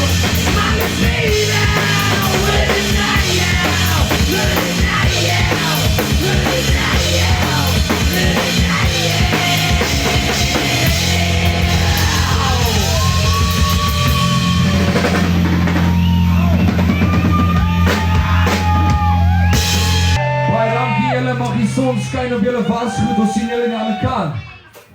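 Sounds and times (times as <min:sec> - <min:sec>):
drum kit: 0:00.0 - 0:22.1
steady bass line: 0:00.0 - 0:23.5
rock band playing: 0:00.0 - 0:24.9.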